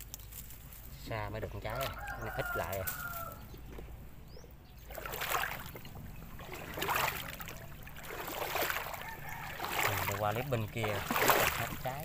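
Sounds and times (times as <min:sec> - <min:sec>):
water sloshing around wading legs: 0:00.0 - 0:12.0.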